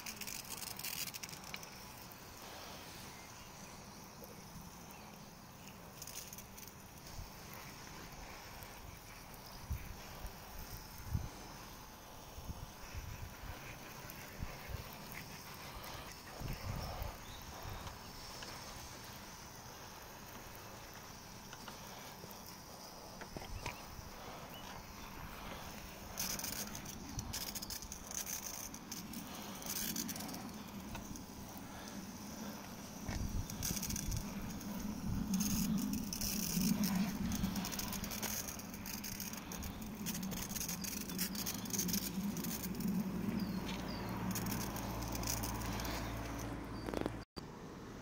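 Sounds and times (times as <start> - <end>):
hose water spraying and pattering: 0.0 - 47.3.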